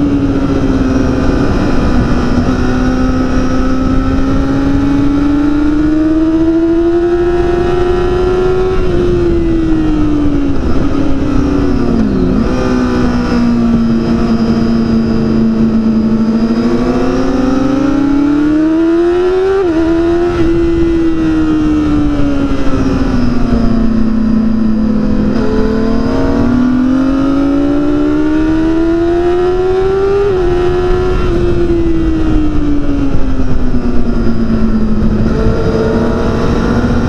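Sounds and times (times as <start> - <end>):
motorcycle engine at high revs: 0.0 - 37.0
wind rushing: 0.0 - 37.0.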